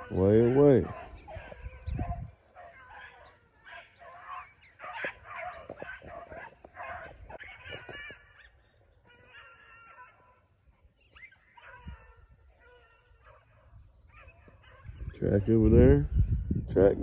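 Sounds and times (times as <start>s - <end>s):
dogs baying: 0.0s - 15.7s.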